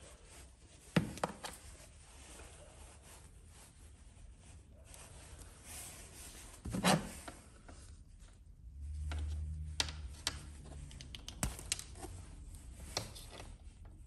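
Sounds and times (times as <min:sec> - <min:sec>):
rubbing and handling wire: 0:00.0 - 0:14.0.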